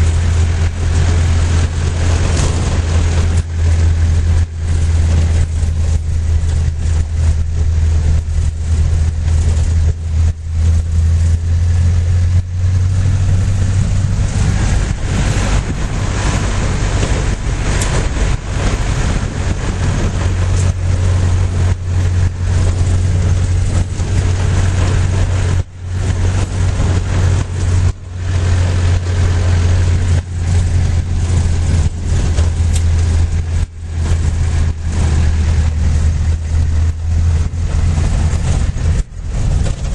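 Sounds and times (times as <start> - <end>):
road noise: 0.0 - 39.9
vehicle engine droning: 0.0 - 39.9.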